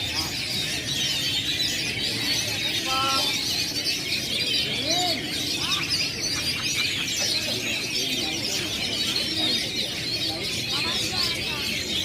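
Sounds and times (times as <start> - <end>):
caged songbirds chirping and trilling: 0.0 - 12.0.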